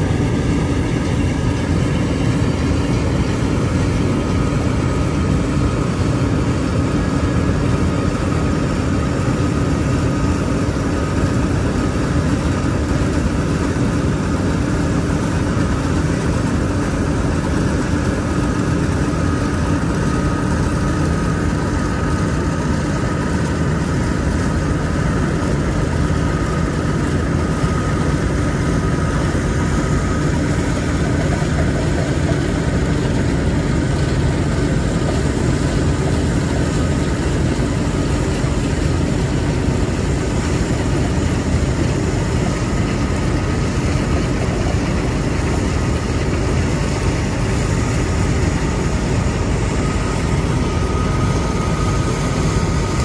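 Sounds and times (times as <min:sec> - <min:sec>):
combine harvester running: 0:00.0 - 0:53.0
faint steady whine: 0:00.0 - 0:53.0.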